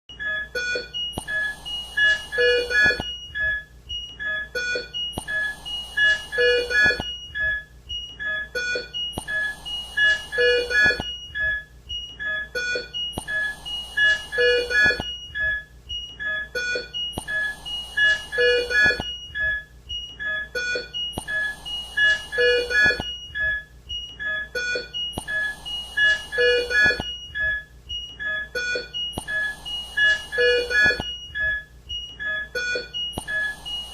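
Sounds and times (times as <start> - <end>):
electronic beeps: 0.1 - 33.9.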